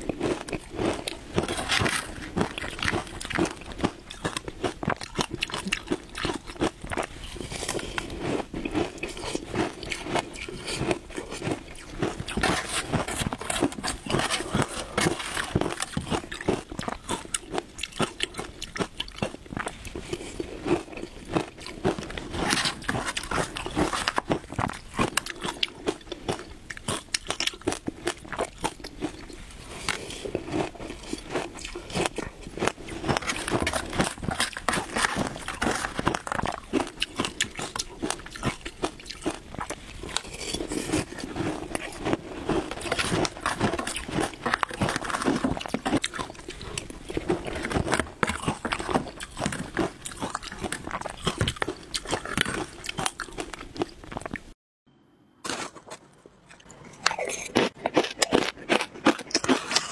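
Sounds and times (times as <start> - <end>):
crunching shaved ice: 0.0 - 54.4.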